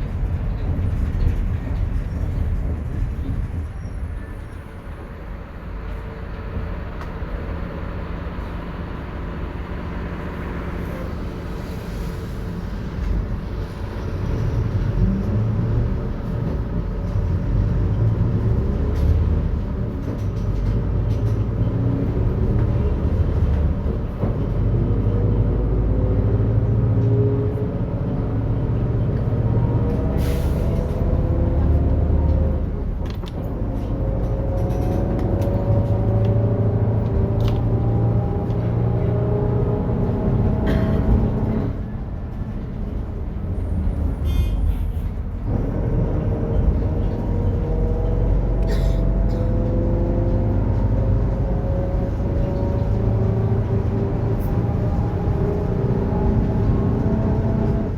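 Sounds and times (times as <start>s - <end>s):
bus differential whine: 0.0s - 57.9s
diesel engine running: 5.8s - 57.9s.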